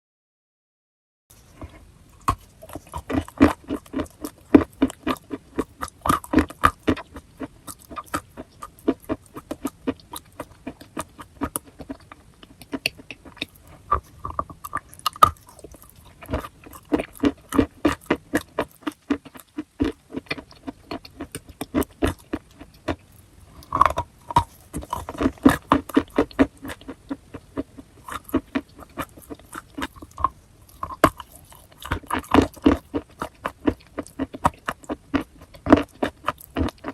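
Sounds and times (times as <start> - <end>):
chalk crunching being chewed: 1.3 - 36.9.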